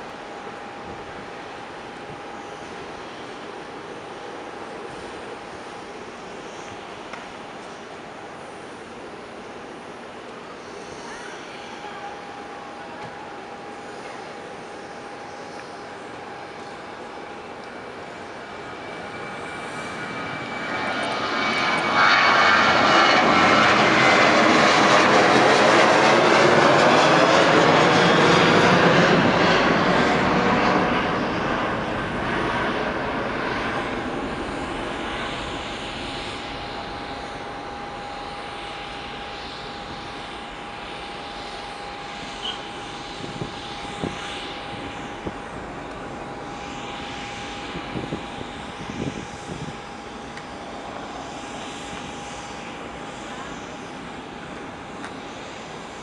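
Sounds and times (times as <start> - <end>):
jet engines at takeoff: 0.0 - 56.0.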